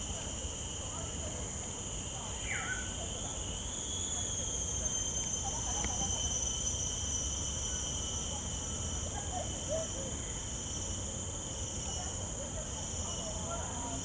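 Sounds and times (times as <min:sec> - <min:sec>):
faint insect chirps: 0:00.0 - 0:14.0
high-pitched insect buzz: 0:00.0 - 0:14.0.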